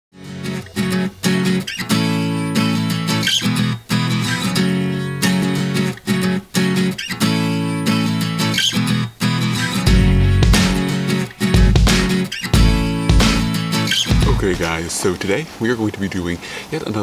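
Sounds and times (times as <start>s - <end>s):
strummed guitar chords: 0.2s - 14.7s.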